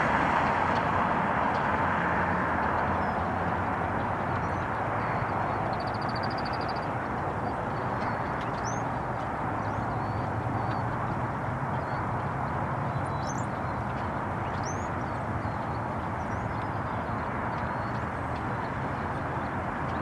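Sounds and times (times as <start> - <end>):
steady rushing noise: 0.0 - 20.0
songbird trill: 2.6 - 20.0.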